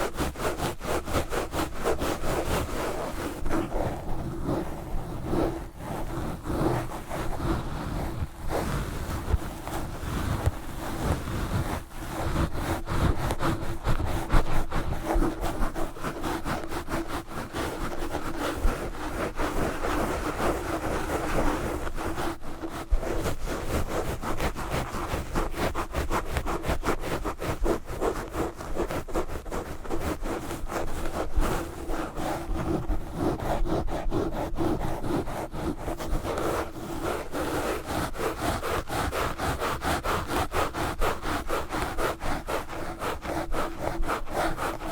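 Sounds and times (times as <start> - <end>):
gloves scratching a microphone: 0.0 - 44.9.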